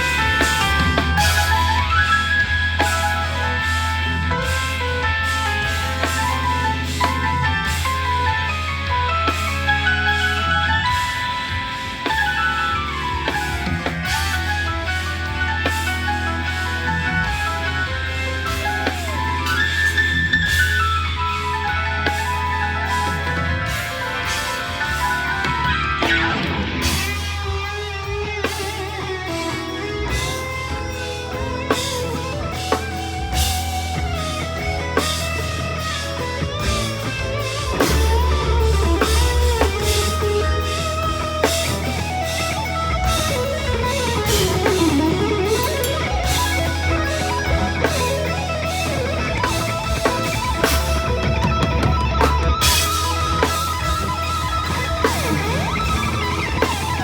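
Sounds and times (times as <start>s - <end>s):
drum kit: 0.0s - 57.0s
electric guitar: 0.0s - 57.0s
live rock band playing: 0.0s - 57.0s.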